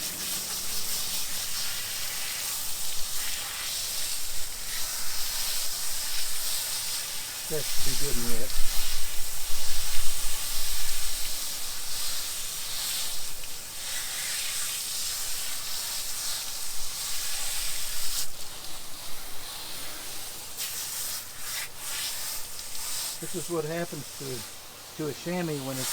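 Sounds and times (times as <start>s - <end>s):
water spraying from garden hose: 0.0s - 25.9s.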